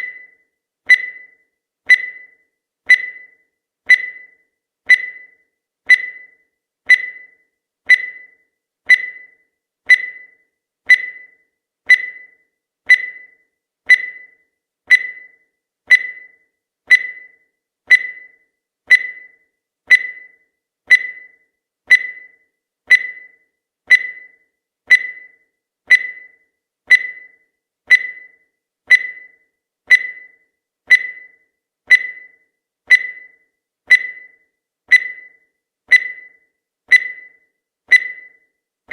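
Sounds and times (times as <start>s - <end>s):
high electronic timer beeps: 0.0s - 38.6s.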